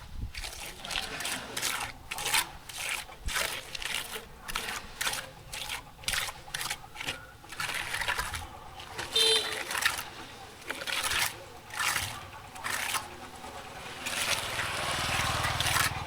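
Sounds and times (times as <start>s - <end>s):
hand tool scraping gravel: 0.0s - 16.0s.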